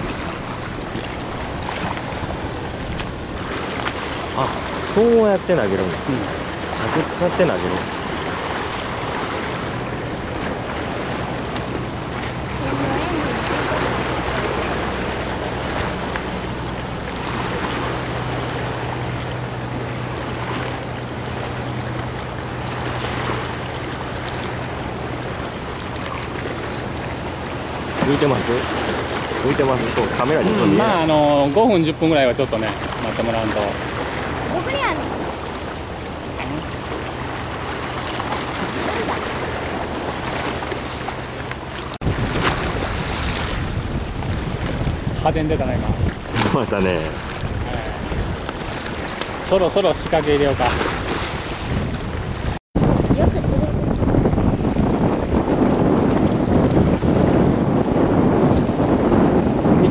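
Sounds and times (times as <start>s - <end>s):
boat engine humming: 0.0s - 59.9s
choppy sea water: 0.0s - 59.9s
wind buffeting microphone: 0.0s - 59.9s.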